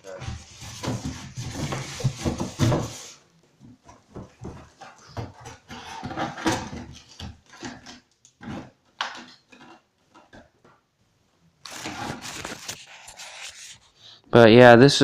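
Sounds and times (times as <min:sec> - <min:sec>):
cardboard rustling and scraping: 0:00.0 - 0:03.2, 0:03.8 - 0:10.4, 0:11.6 - 0:13.9.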